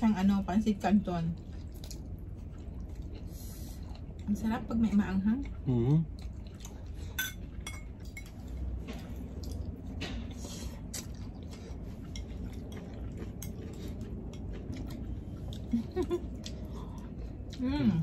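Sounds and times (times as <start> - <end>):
chewing: 1.3 - 18.0.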